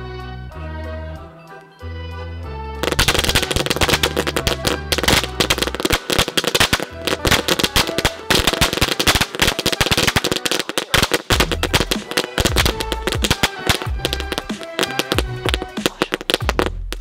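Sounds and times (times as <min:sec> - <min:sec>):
background music: 0:00.0 - 0:17.0
firecrackers crackling: 0:02.8 - 0:17.0.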